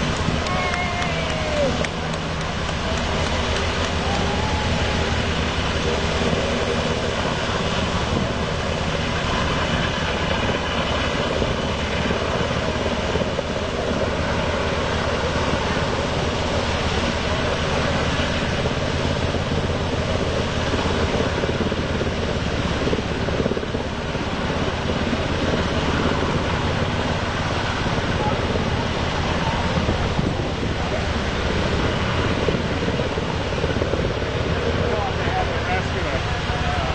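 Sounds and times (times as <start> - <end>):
engine droning steadily: 0.0 - 36.9.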